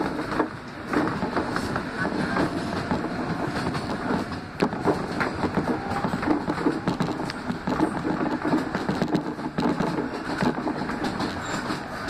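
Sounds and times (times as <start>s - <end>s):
subway car rolling rumble: 0.0s - 12.0s
wheels clicking over rails: 0.0s - 12.0s.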